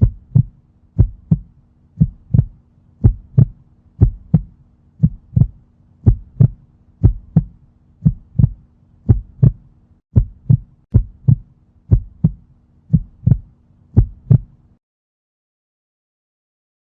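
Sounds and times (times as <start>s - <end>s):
heartbeat thumps: 0.0s - 14.6s
faint steady hum: 0.0s - 14.8s.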